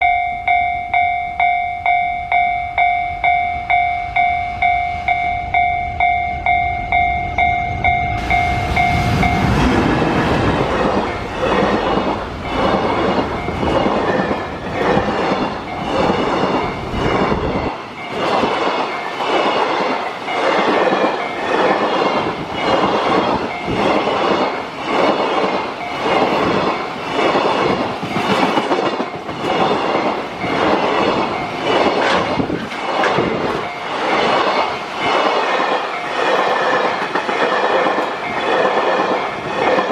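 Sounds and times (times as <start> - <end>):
freight train passing: 0.0 - 39.9
level crossing warning bell: 0.0 - 39.9
train wheels clickety-clack: 7.8 - 39.9.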